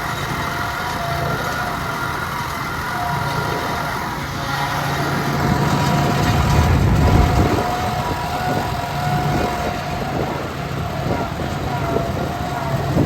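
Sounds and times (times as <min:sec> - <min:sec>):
high whine: 0:00.0 - 0:13.0
tractor engine running: 0:00.0 - 0:13.0.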